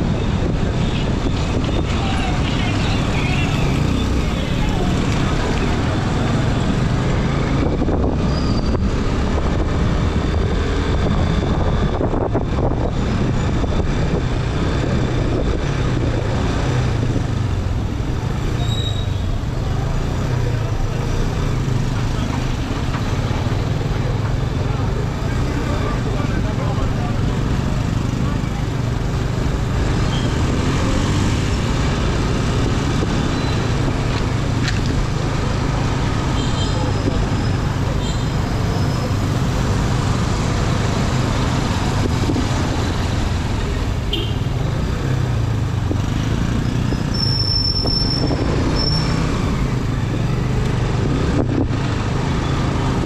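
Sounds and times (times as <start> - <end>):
street traffic noise: 0.0 - 53.0.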